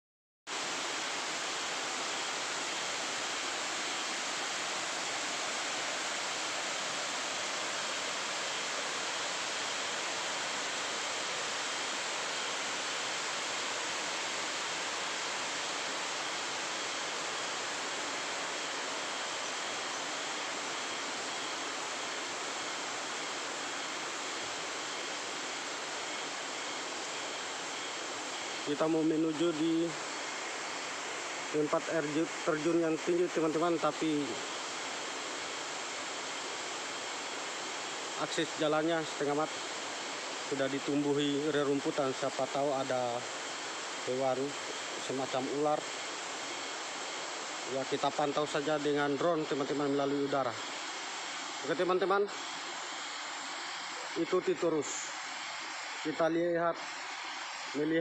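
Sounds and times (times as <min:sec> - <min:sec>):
waterfall rushing: 0:00.5 - 0:58.0.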